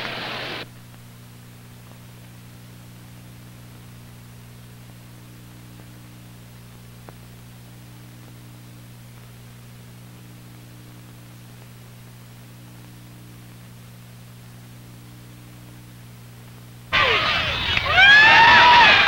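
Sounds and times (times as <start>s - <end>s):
film soundtrack hiss: 0.0s - 19.0s
mains hum: 0.0s - 19.0s.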